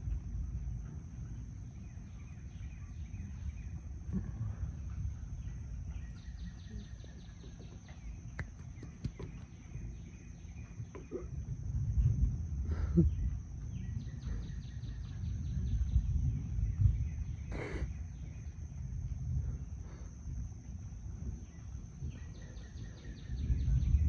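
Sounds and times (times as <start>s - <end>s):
steady low rumble: 0.0s - 24.0s
birds chirping: 0.8s - 24.0s.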